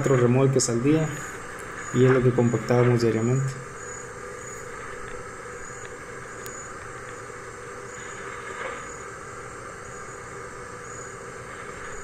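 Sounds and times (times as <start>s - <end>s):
tractor and harvester drone: 0.0s - 12.0s.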